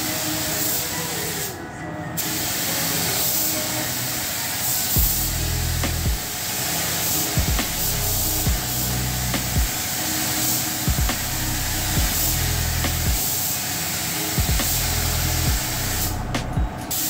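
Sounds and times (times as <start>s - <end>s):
spray gun hissing: 0.0s - 1.6s, 2.2s - 17.0s.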